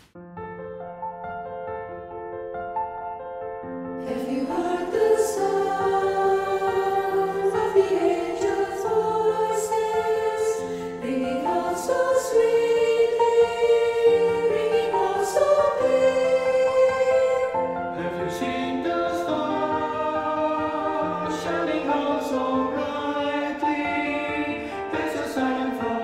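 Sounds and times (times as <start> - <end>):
mixed choir singing: 4.0 - 26.0.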